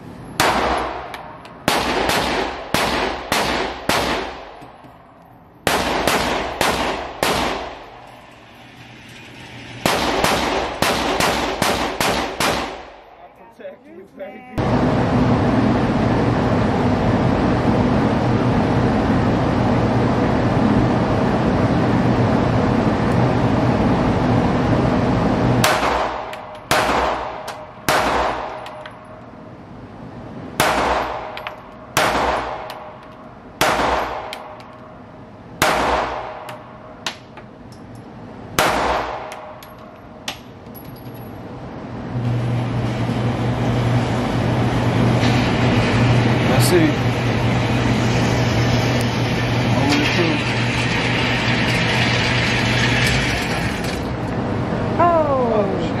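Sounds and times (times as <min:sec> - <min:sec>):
steady rushing hum: 0:00.0 - 0:56.0.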